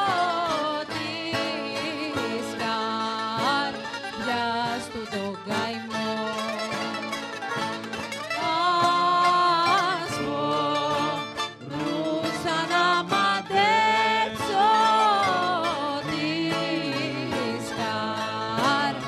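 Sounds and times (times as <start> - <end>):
plucked and strummed strings: 0.0 - 19.0.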